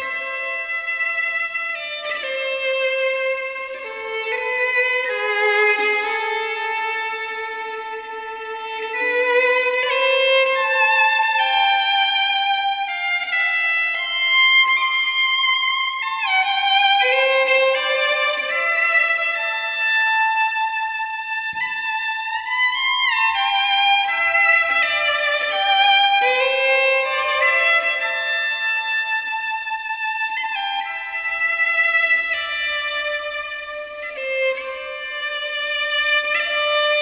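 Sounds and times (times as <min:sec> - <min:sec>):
solo fiddle playing slow air: 0:00.0 - 0:37.0.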